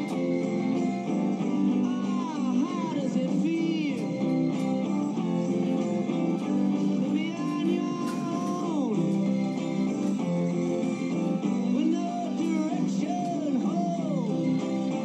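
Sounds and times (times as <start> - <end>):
guitar music through radio speaker: 0.0 - 15.0.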